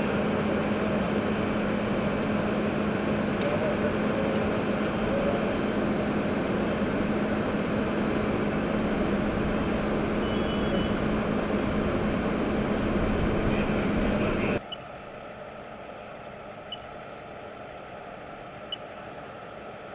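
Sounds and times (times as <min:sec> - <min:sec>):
engine drone: 0:00.0 - 0:19.9.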